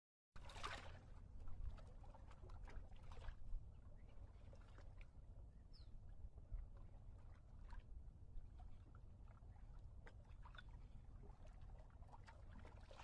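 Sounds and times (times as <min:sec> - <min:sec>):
soft splashes: 0:00.4 - 0:05.2, 0:06.6 - 0:13.0.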